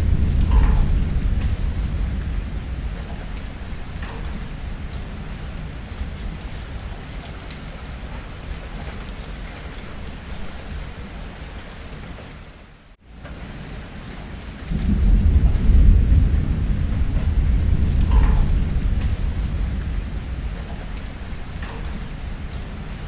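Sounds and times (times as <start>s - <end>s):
thunder rumbling: 0.0s - 11.3s, 13.3s - 23.0s
heavy rain: 0.0s - 23.0s.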